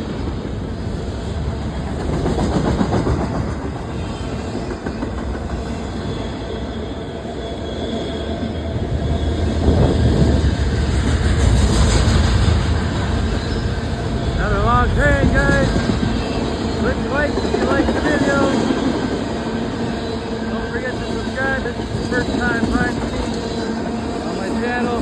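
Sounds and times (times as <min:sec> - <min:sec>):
wheels clacking on rails: 0:00.0 - 0:06.6, 0:08.4 - 0:25.0
train rumbling past: 0:00.0 - 0:25.0.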